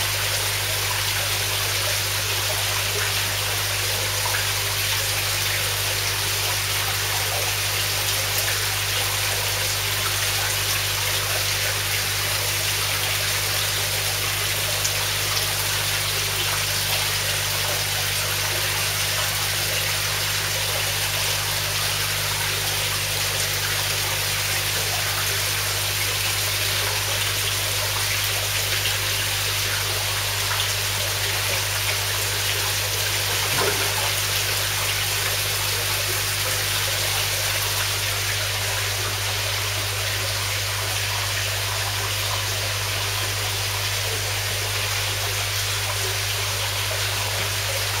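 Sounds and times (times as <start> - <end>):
water trickling in pond: 0.0 - 48.0.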